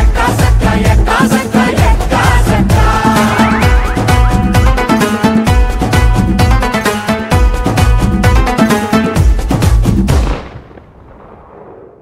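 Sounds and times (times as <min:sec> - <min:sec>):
dance song with heavy drum beat: 0:00.0 - 0:10.1.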